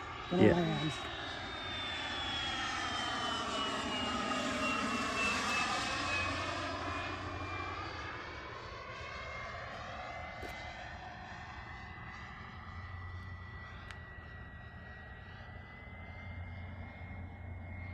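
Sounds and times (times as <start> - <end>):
small jet engine whine: 0.0 - 17.9.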